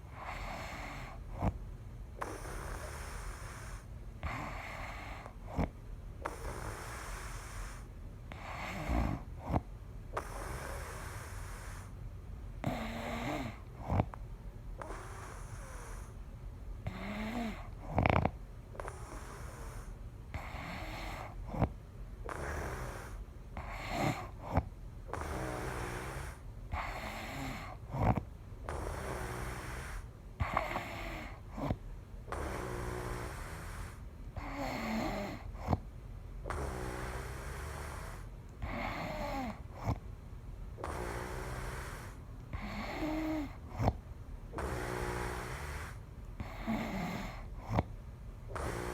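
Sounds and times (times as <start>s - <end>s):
person snoring: 2.2s - 11.9s, 12.6s - 14.1s, 16.8s - 21.7s, 22.3s - 35.8s, 36.5s - 40.0s, 40.8s - 44.0s, 44.6s - 47.9s, 48.5s - 48.9s.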